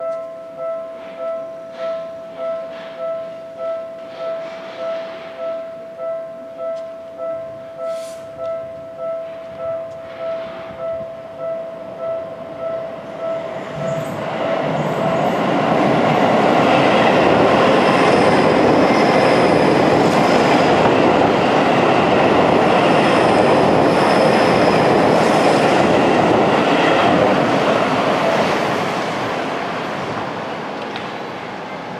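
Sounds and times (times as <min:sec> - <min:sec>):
level-crossing warning bell: 0:00.0 - 0:30.6
electric train passing: 0:00.0 - 0:31.9.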